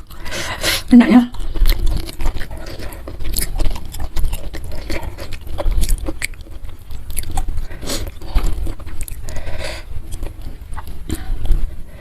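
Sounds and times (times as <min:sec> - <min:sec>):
chewing and biting food: 0:00.0 - 0:12.0.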